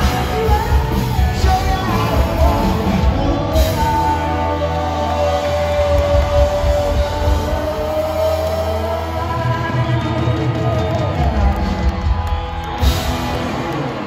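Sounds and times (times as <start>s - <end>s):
lead singer: 0.0s - 14.0s
rock band playing: 0.0s - 14.0s.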